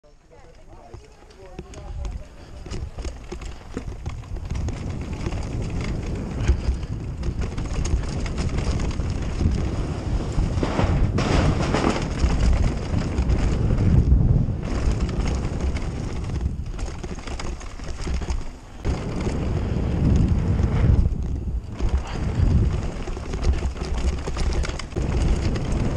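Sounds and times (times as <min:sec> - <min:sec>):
bike tyres rumbling on dirt: 0:00.3 - 0:25.9
wind buffeting microphone: 0:00.9 - 0:25.9.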